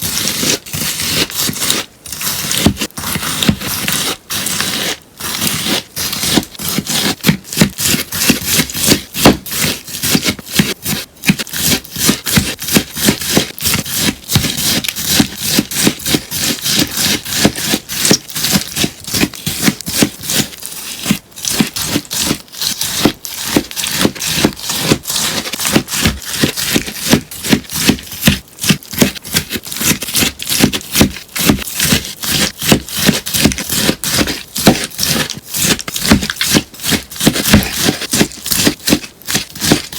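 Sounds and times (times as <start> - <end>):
crunchy slime being cut: 0.0 - 39.9.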